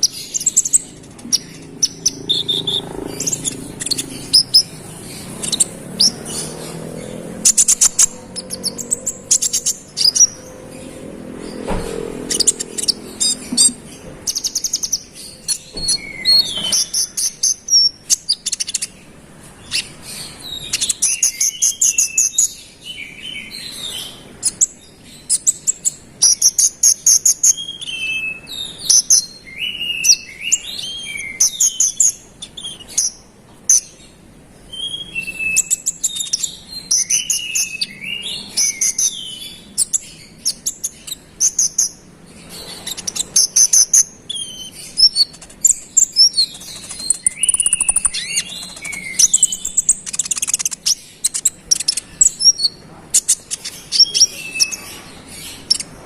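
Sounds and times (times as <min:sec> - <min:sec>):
songbird trilling and whistling: 0:00.0 - 0:56.0.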